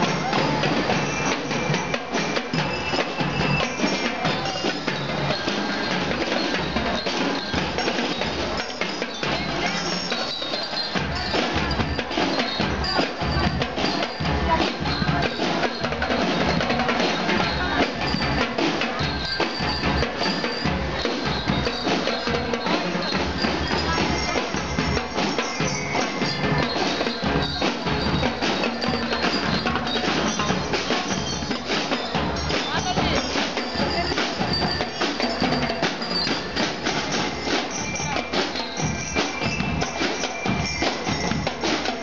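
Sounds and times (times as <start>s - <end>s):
bell lyres playing tune: 0.0s - 42.0s
snare and bass drums beating: 0.0s - 42.0s.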